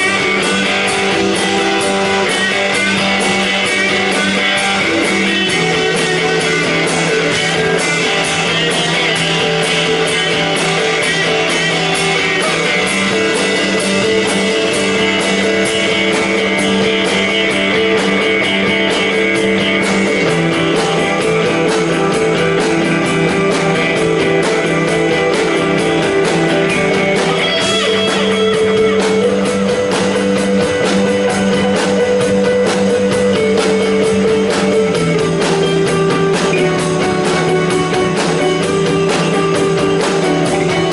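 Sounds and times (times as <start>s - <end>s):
live rock band with guitars: 0.0s - 40.9s.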